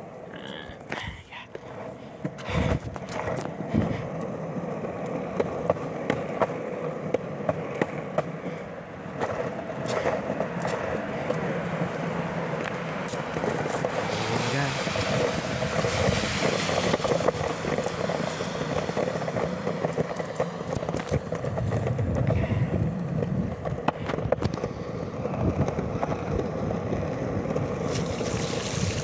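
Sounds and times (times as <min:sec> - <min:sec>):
longboard wheels rumbling on concrete: 0:00.0 - 0:29.0
wheels clacking over joints: 0:01.6 - 0:29.0.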